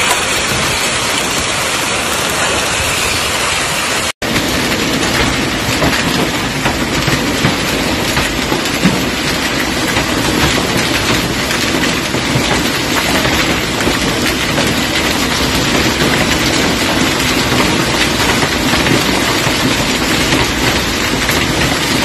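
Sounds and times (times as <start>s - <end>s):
hail pelting on pavement: 0.0s - 22.0s.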